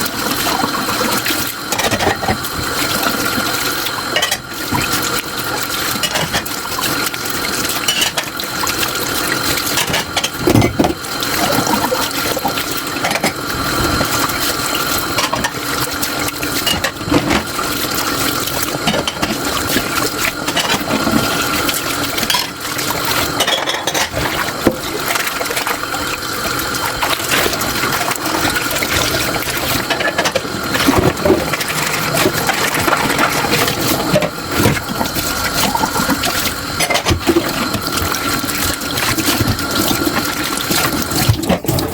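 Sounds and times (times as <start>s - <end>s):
tap water running into sink: 0.0s - 41.9s.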